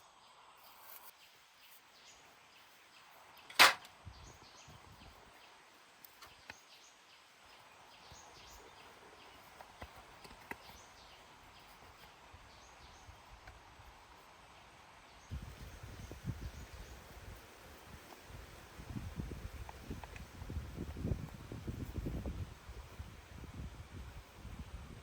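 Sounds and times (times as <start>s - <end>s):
low outdoor background noise: 0.0s - 25.0s.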